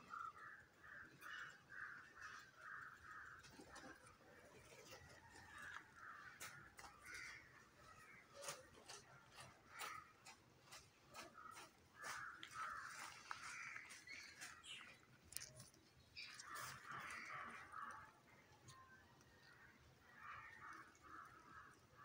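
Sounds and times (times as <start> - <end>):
faint bird calls: 0.0 - 22.0.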